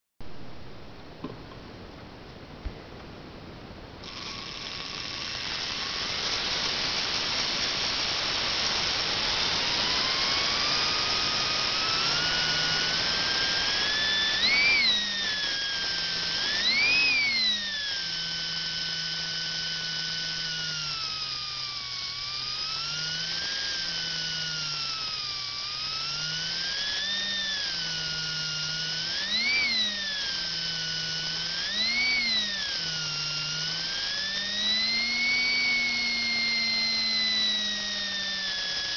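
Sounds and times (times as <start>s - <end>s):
electric motor whine: 4.0s - 38.9s.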